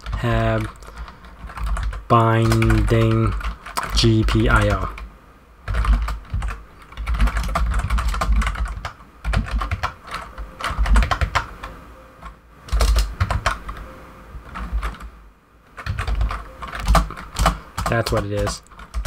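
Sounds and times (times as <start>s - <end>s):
computer keyboard typing: 0.0s - 15.1s, 15.8s - 19.0s.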